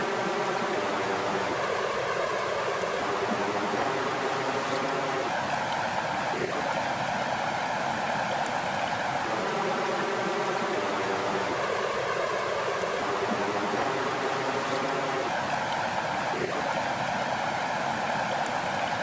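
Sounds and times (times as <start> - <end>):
water rushing at shore: 0.0 - 19.0.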